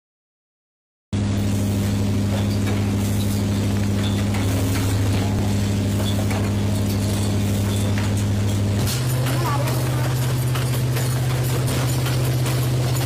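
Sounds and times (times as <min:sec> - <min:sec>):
machine humming: 0:01.2 - 0:13.0.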